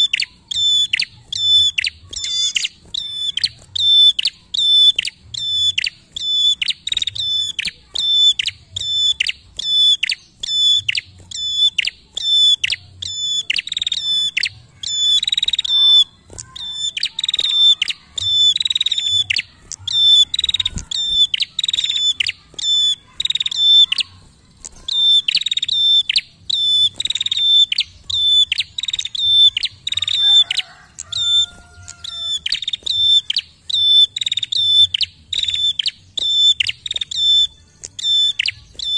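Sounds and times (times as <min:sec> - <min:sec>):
bird calling sharp repeated notes: 0:00.0 - 0:38.9.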